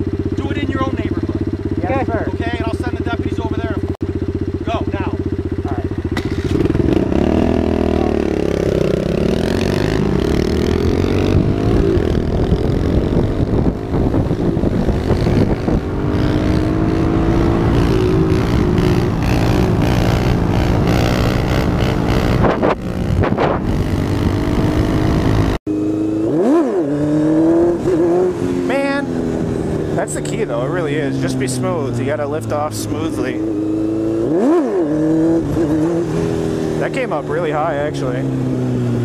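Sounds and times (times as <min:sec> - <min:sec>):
motorcycle engines revving: 0:00.0 - 0:39.0.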